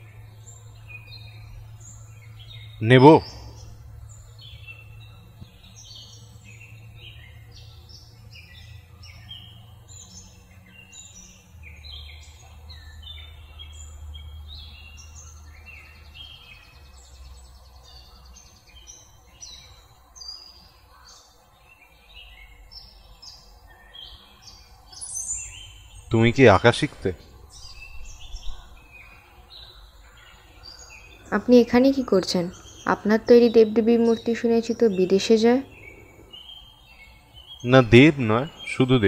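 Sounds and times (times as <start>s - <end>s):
low steady hum: 0.0s - 39.0s
small birds chirping: 0.0s - 39.0s.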